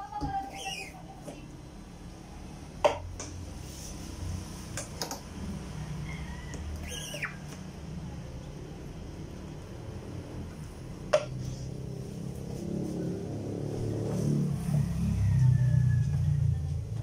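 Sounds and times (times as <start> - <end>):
low engine-like rumble: 1.0 - 17.0.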